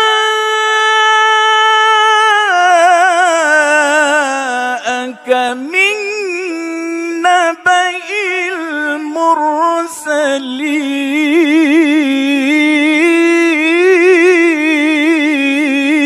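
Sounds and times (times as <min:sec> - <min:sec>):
man chanting melodically: 0:00.0 - 0:16.0.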